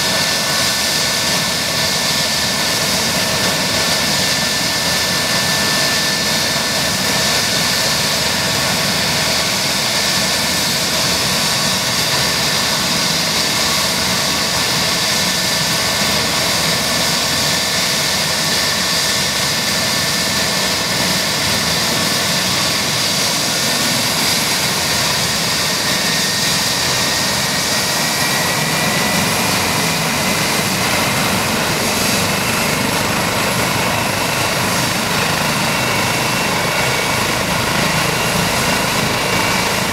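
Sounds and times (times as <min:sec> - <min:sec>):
helicopter engine whine: 0:00.0 - 0:39.9
helicopter rotor noise: 0:00.0 - 0:39.9.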